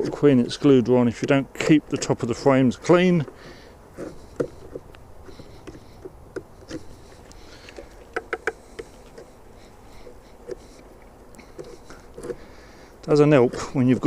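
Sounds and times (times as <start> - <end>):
hive tool scraping wooden frames: 0.0 - 14.0.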